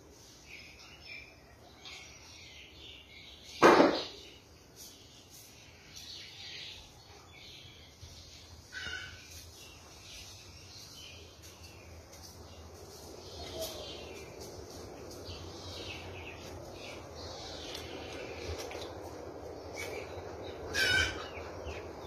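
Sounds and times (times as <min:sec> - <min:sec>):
birds chirping: 0:00.4 - 0:22.0.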